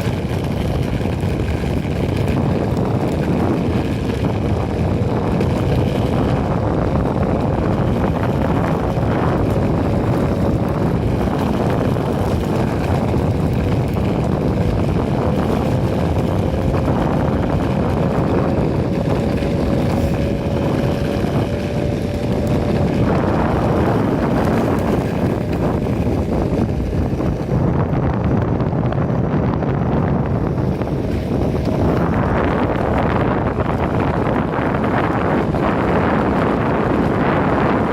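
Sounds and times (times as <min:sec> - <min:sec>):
wheel and road rumble: 0:00.0 - 0:37.9
wind buffeting microphone: 0:00.0 - 0:37.9.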